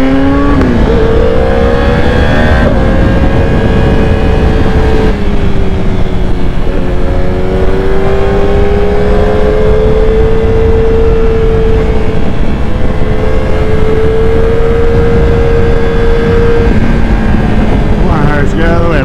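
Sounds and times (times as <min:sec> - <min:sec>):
motorcycle engine revving high: 0:00.0 - 0:19.0
wind rush on microphone: 0:00.0 - 0:19.0.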